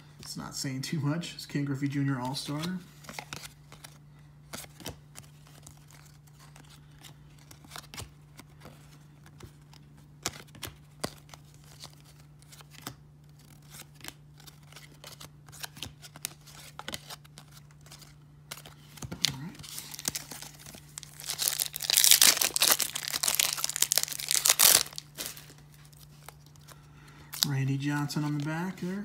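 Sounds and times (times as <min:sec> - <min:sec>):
cards being flipped by hand: 0:02.2 - 0:26.8, 0:27.4 - 0:28.9.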